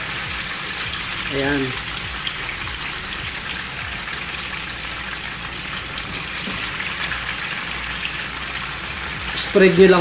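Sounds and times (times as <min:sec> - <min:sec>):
tofu sizzling in oil: 0:00.0 - 0:10.0.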